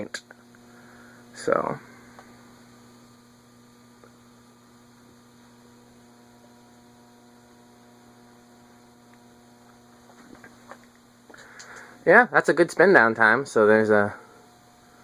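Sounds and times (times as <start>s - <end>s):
faint mains hum: 0.0s - 15.0s.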